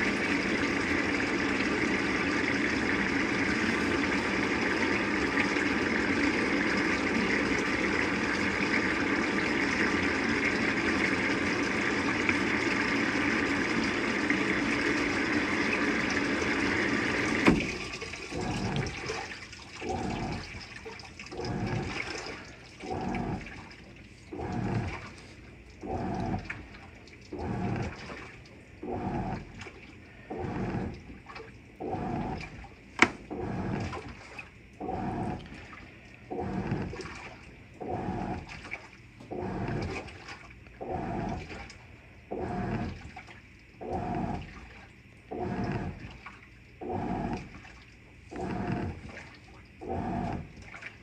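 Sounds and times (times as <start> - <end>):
washing machine motor humming: 0.0 - 51.0
water sloshing: 0.0 - 51.0.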